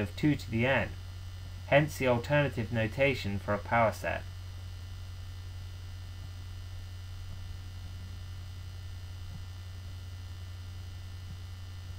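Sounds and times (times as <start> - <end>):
low mains hum: 0.0 - 11.9.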